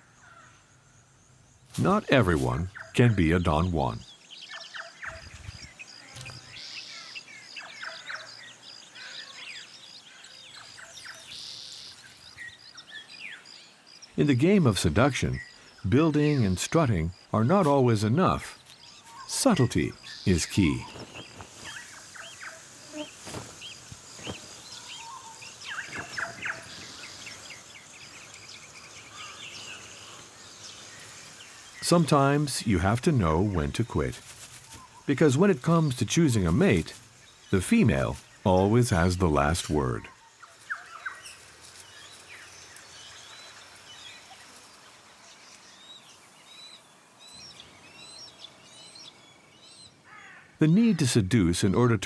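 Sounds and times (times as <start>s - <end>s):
faint steady high hiss: 0.0s - 4.6s, 5.2s - 52.0s
birds chirping: 0.0s - 52.0s.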